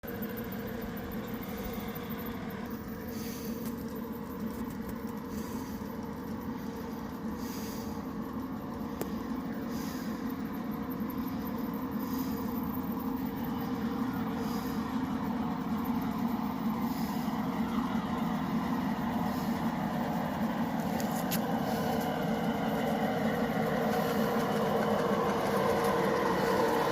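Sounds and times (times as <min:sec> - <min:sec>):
model train motor hum: 0:00.0 - 0:26.9.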